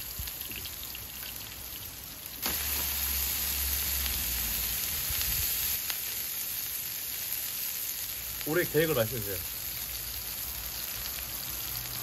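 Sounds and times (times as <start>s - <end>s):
loud steady sizzle of wet greens: 0.0s - 12.0s
pork frying with light crackle: 0.0s - 12.0s.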